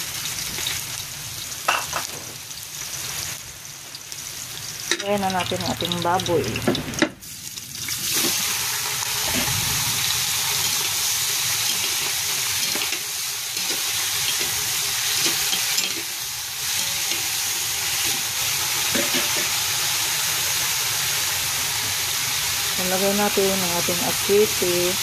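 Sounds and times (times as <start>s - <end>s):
meat frying in oil: 0.0s - 25.0s.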